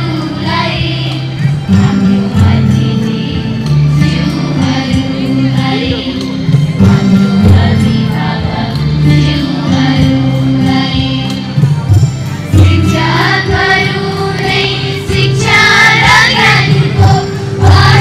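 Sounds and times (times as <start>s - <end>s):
children's choir singing: 0.0s - 6.2s, 6.9s - 11.7s, 12.5s - 18.0s
instrumental music: 0.0s - 18.0s.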